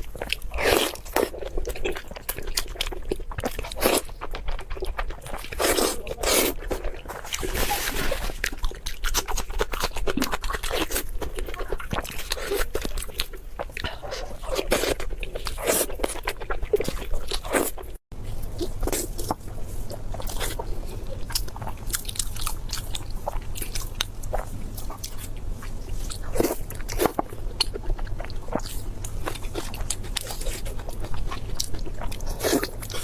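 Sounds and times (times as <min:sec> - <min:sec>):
crunchy bites and chewing: 0:00.0 - 0:33.0.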